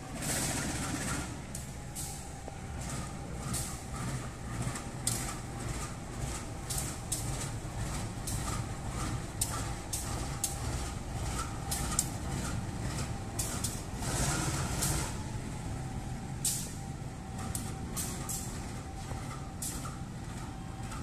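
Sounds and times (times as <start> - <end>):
locomotive engine low rumble: 0.0 - 21.0.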